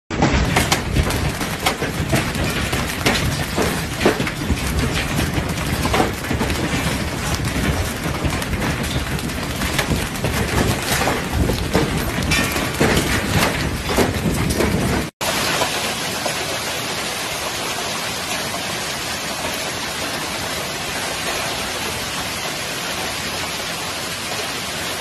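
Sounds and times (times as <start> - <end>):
hail cracking on stone paving: 0.1 - 25.0
hail plunking into pool: 0.1 - 25.0.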